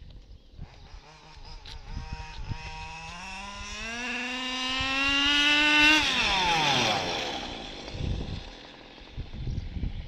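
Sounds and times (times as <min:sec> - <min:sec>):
model car engine revving: 0:00.7 - 0:09.7.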